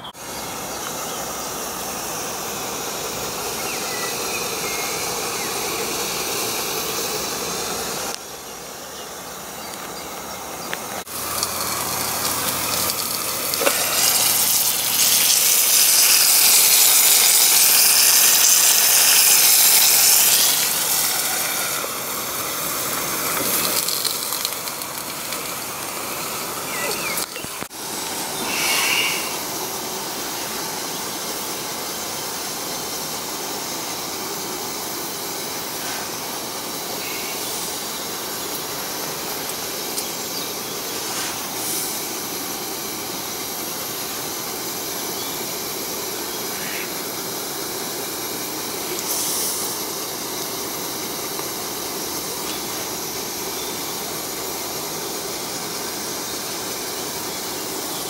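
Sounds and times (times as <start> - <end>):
gas stove burner hissing: 0.0 - 58.0.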